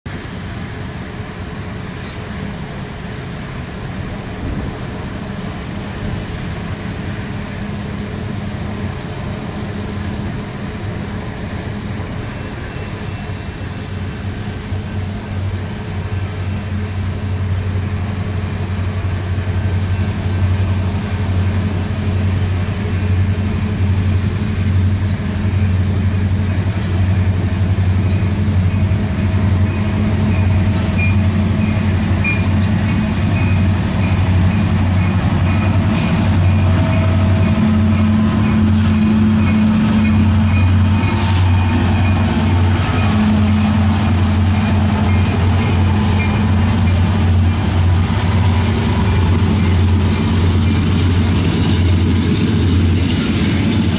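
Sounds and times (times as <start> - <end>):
locomotive engines droning: 0.1 - 53.9.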